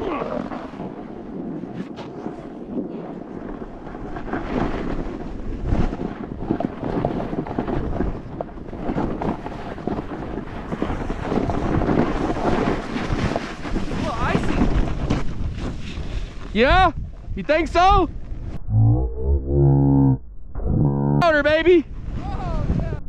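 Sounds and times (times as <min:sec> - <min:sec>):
snowboard sliding over snow: 0:00.0 - 0:18.5
wind buffeting microphone: 0:00.0 - 0:19.6, 0:21.3 - 0:23.0.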